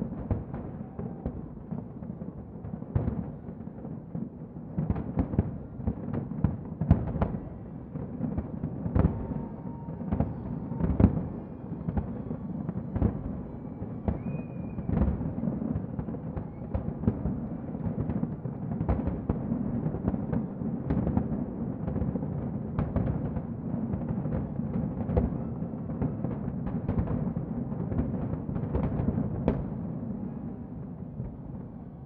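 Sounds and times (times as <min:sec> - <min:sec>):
fireworks booming: 0:00.0 - 0:32.0.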